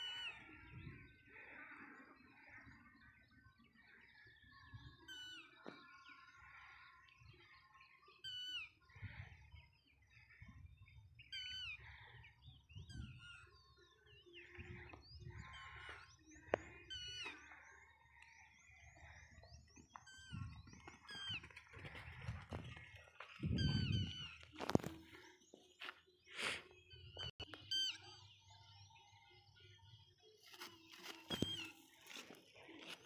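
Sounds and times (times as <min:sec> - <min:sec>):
birds calling whistled notes: 0:00.0 - 0:33.0.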